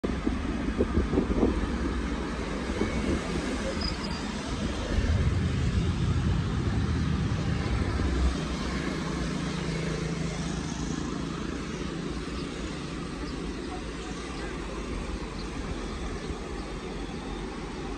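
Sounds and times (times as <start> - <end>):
street traffic rumble: 0.0 - 17.9.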